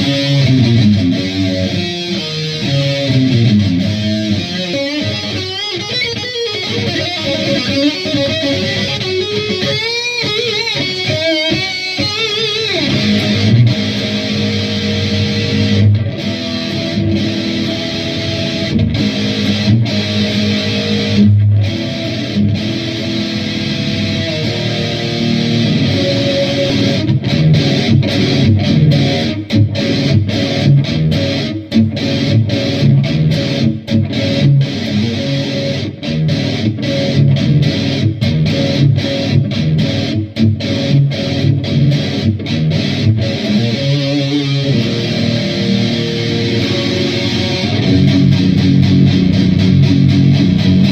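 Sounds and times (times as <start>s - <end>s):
distorted electric guitar playing metal: 0.0s - 50.9s.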